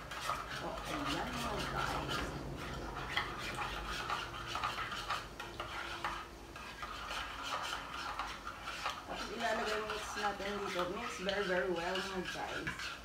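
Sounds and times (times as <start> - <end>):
utensil scraping metal cup: 0.0 - 13.0.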